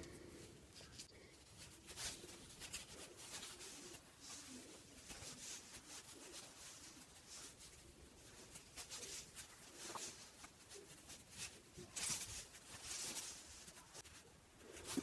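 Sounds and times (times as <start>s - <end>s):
yarn and crochet hook rustling: 0.0s - 15.0s.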